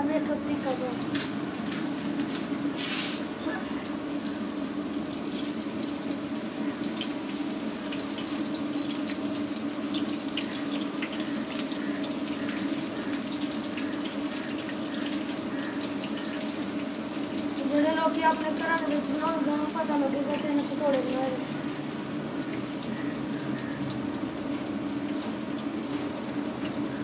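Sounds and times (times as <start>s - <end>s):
food deep-frying in hot oil: 0.0s - 27.0s.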